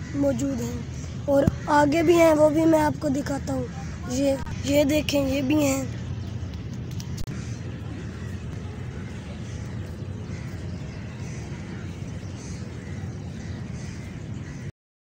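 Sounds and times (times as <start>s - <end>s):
low outdoor rumble: 0.0s - 14.7s.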